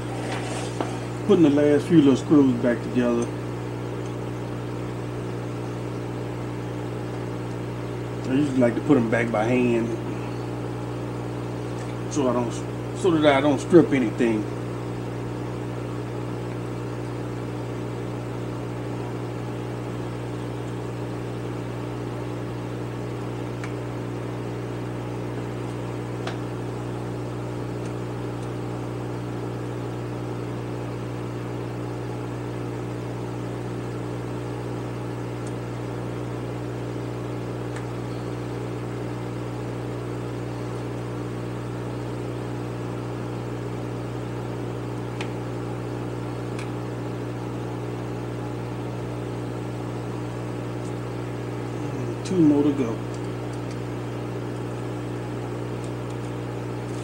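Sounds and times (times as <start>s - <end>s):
electric machine hum: 0.0s - 57.0s.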